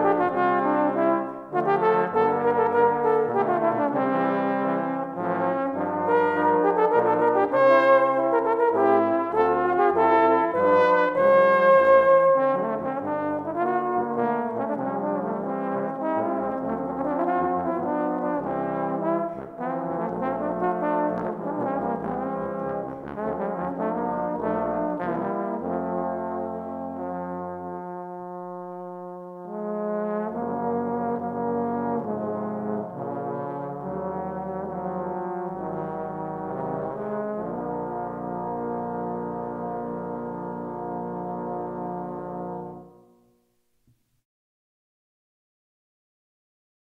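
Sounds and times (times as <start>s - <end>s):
trombones playing in harmony: 0.0s - 43.1s.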